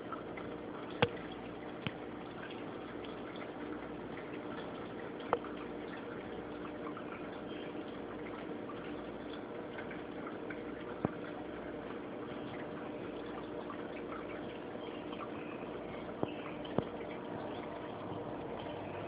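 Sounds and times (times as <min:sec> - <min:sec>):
faint steady hum: 0:00.0 - 0:19.0
water trickling and dripping: 0:00.0 - 0:19.0.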